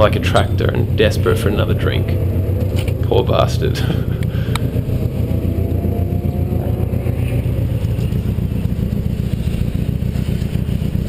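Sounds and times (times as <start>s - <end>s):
car engine idling roughly: 0.0s - 11.0s.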